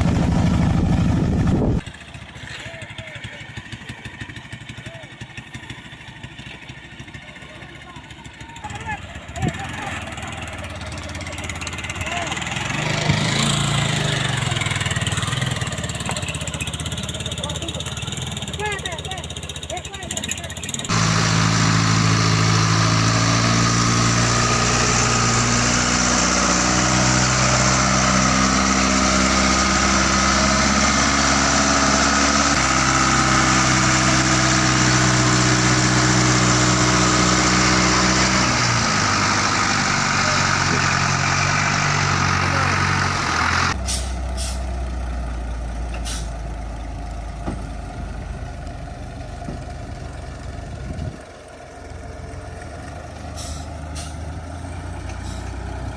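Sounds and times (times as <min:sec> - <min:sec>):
heavy engines running under load: 0:00.0 - 0:55.9
quieter engine: 0:00.0 - 0:55.9.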